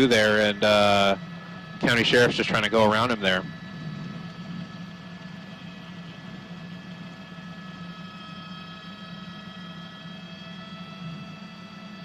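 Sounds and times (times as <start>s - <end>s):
helicopter rotor and engine hum: 0.0s - 12.0s.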